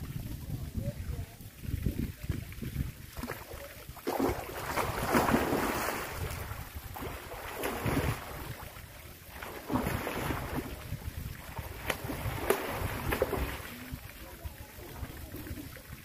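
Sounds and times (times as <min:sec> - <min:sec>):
wind rumbling on microphone: 0:00.0 - 0:16.0
water splashing from swimmer: 0:01.8 - 0:16.0.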